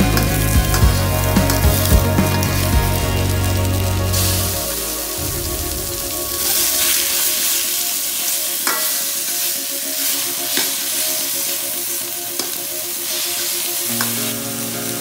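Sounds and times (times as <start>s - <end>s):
chicken sizzling in a wok: 0.1s - 15.0s.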